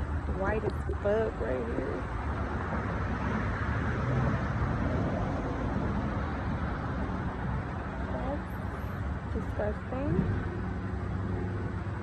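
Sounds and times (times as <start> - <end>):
faint low engine hum: 0.0 - 12.0
road traffic rumble: 0.0 - 12.0.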